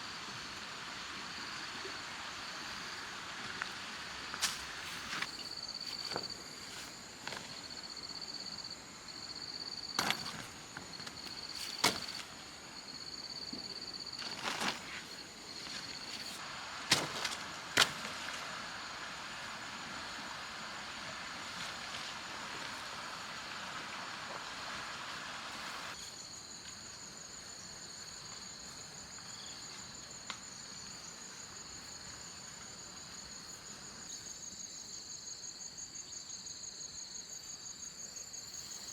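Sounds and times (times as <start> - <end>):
steady hiss: 0.0 - 35.6
insects trilling: 0.0 - 38.9.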